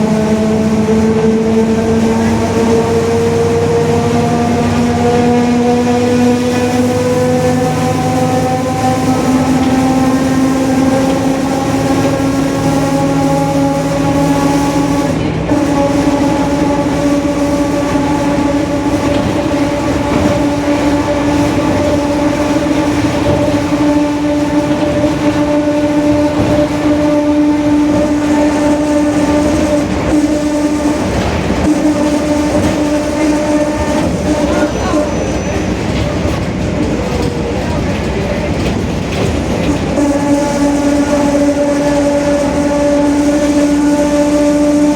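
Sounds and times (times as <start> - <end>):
bus differential whining: 0.0 - 44.9.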